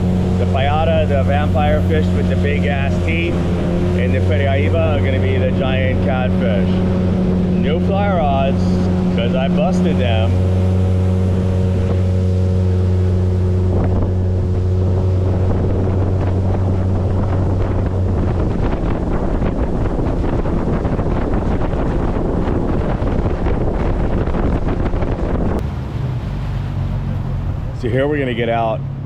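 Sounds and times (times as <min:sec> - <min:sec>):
boat motor running: 0:00.0 - 0:29.0
rush of wind and water: 0:00.0 - 0:29.0
wind buffeting microphone: 0:00.0 - 0:29.0.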